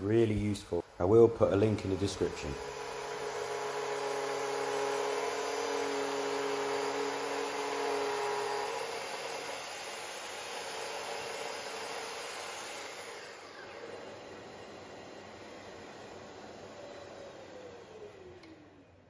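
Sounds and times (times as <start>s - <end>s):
dust extractor rushing: 0.0s - 18.6s
circular saw cutting wood: 0.1s - 18.7s.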